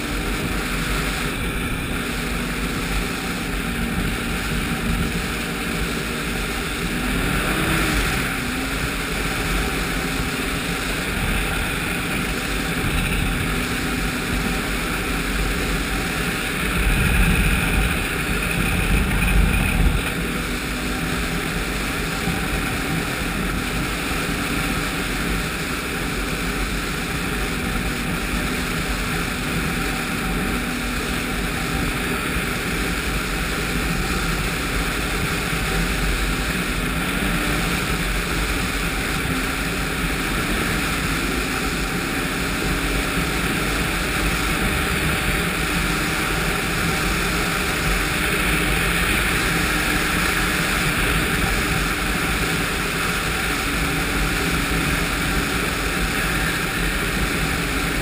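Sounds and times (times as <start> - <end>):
snowmobile engine running: 0.0 - 58.0
wind rushing over microphone: 0.0 - 58.0.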